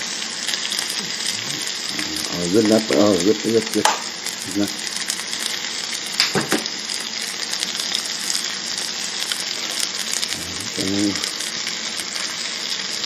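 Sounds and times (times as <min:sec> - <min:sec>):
steak sizzling on grill: 0:00.0 - 0:13.0.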